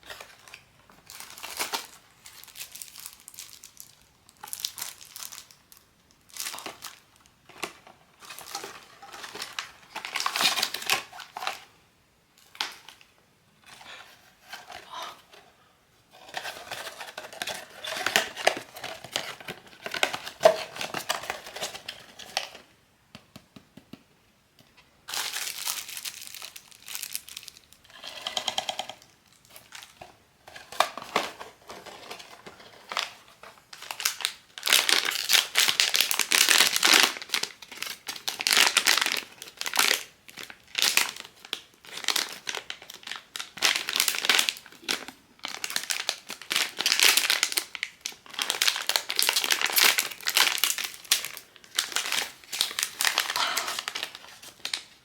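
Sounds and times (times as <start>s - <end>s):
crinkly packaging rustling: 0.0s - 11.8s, 12.4s - 22.7s, 25.0s - 55.0s.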